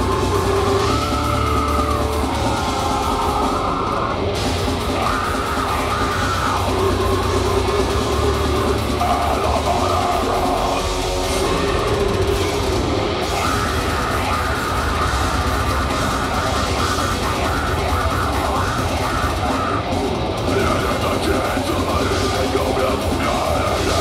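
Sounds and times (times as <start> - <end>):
metal band playing live: 0.0 - 24.0.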